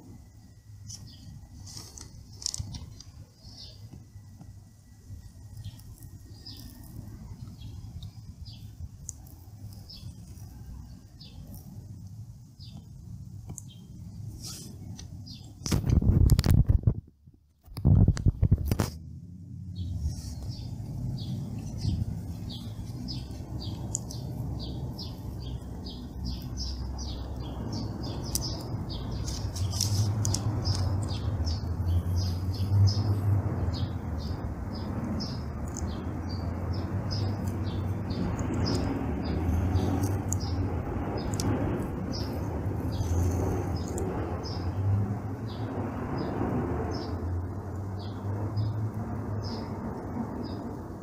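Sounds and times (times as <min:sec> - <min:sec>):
bird chirping: 0:00.3 - 0:11.7, 0:13.5 - 0:15.6, 0:19.7 - 0:49.7.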